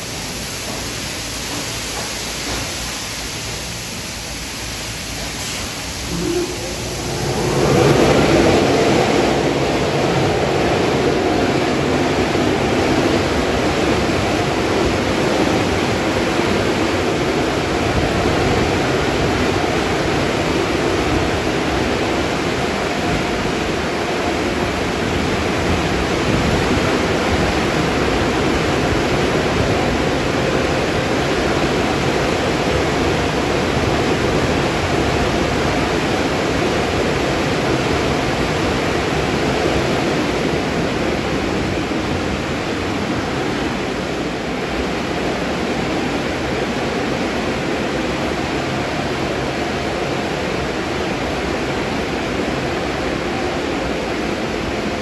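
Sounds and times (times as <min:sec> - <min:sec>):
car wash water spraying: 0:00.0 - 0:55.0.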